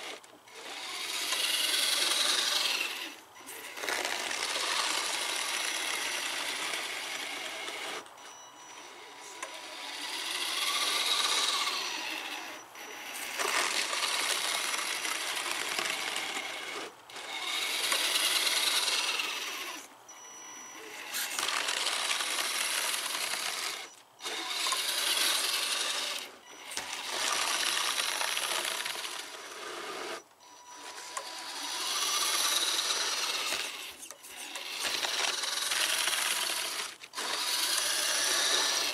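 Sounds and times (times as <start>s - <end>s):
electric motor and gears whining: 0.0s - 38.9s.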